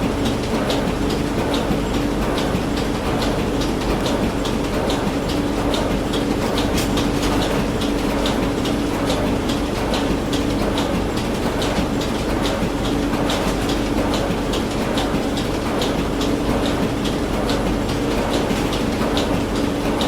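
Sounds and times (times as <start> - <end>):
printing machine clacking: 0.0 - 20.0
printing machine humming: 0.0 - 20.0.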